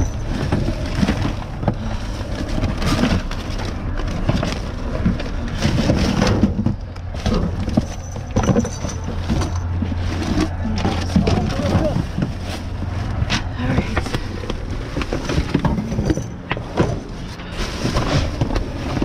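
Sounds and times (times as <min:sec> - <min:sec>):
bags and paper rustling: 0:00.0 - 0:19.0
items knocking: 0:00.0 - 0:19.0.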